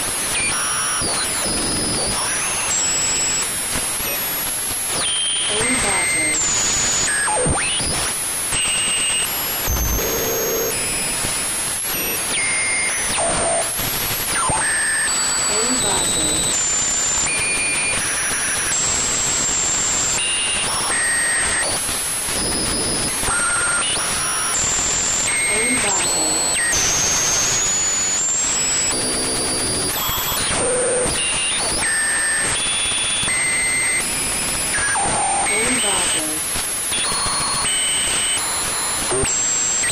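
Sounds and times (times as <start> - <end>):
synthesized radio static: 0.0 - 39.9.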